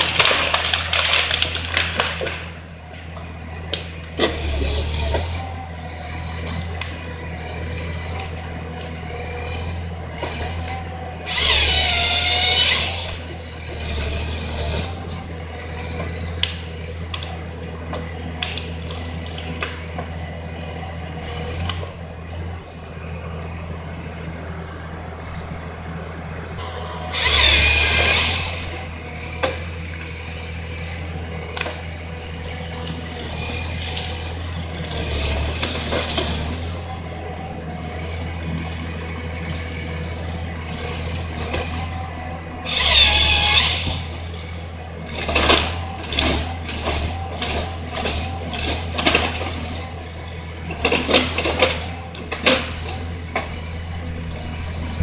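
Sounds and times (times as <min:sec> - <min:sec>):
diesel engine running: 0:00.0 - 0:55.0
saw bar cutting log whine: 0:00.0 - 0:55.0.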